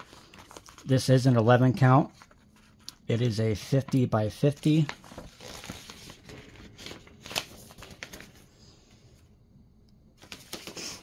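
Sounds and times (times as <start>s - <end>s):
paper rustling: 0.0s - 8.6s, 10.2s - 11.0s.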